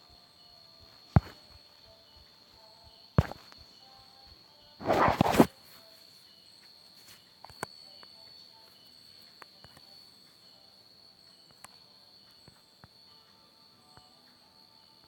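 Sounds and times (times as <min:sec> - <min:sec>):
insect trill: 0:00.0 - 0:15.0.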